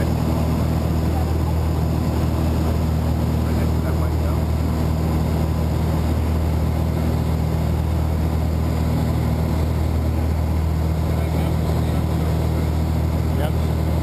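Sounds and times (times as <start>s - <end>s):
small plane engine droning: 0.0s - 14.0s.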